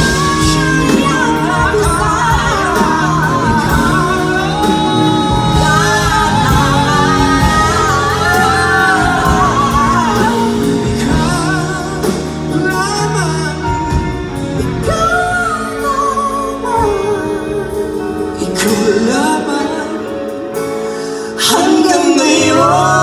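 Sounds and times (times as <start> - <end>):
instrumental accompaniment: 0.0 - 23.0
person singing: 0.0 - 23.0.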